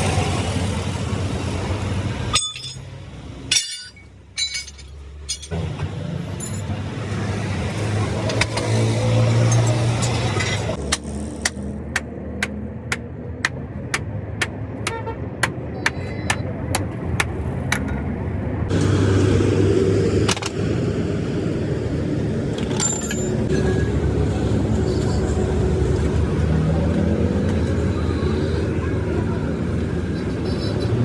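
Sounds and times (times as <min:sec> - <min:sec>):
road traffic: 0:00.0 - 0:31.0
rush of passing traffic: 0:00.0 - 0:31.0.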